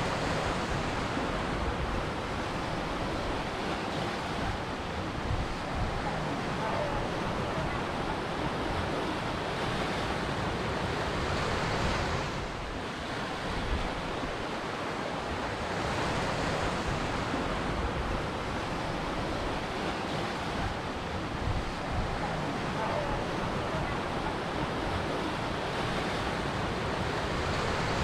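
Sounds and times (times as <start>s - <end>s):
ocean waves breaking on beach: 0.0s - 28.0s.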